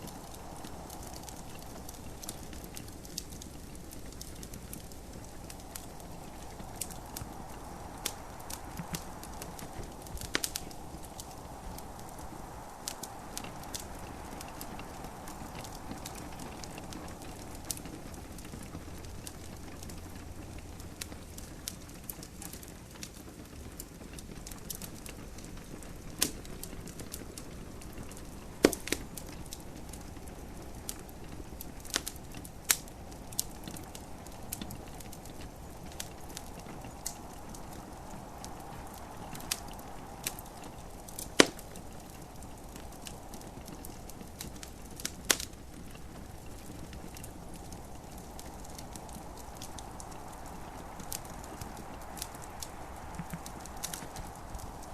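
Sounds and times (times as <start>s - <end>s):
wood fire crackling: 0.0s - 54.9s
sharp pops of fire: 0.1s - 18.7s, 26.2s - 31.1s, 31.7s - 54.9s.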